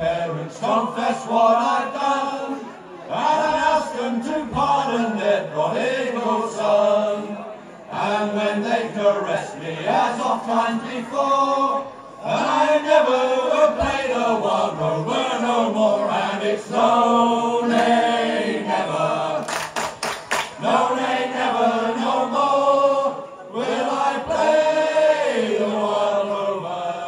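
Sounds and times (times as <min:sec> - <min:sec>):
group singing sea shanty: 0:00.0 - 0:27.0.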